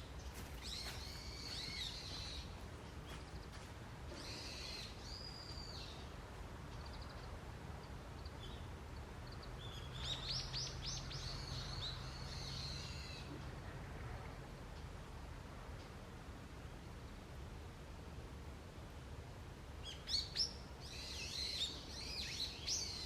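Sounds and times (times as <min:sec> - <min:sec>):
songbirds chirping: 0:00.0 - 0:23.0
steady low background hum: 0:00.0 - 0:23.0.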